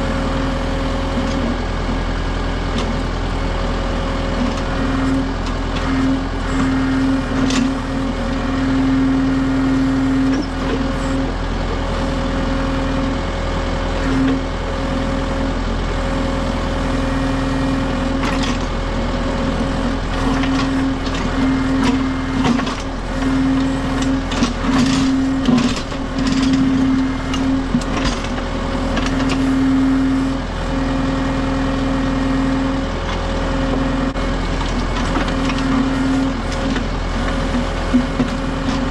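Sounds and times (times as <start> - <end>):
tractor diesel engine: 0.0 - 38.9.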